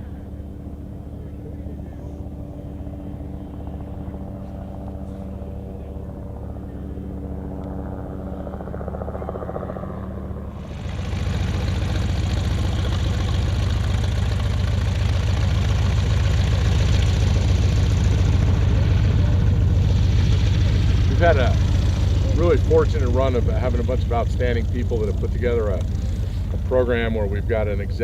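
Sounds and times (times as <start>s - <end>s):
propeller aircraft engines: 0.0s - 28.0s.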